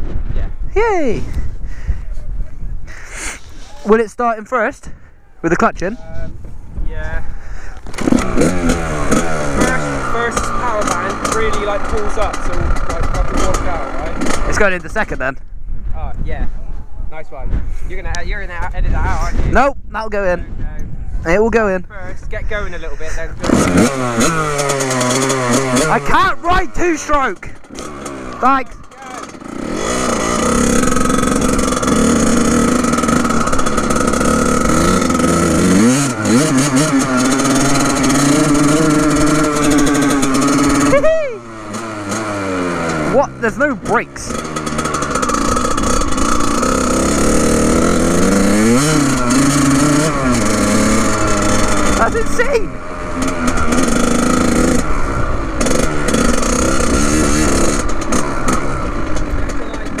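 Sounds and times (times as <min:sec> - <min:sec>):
dirt bike engine running: 0:02.9 - 0:15.9, 0:20.5 - 1:00.0.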